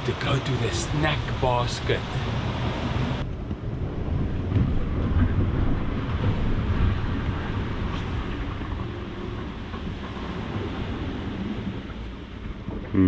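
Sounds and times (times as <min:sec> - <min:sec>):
wind and sea rumble: 0:00.0 - 0:13.0.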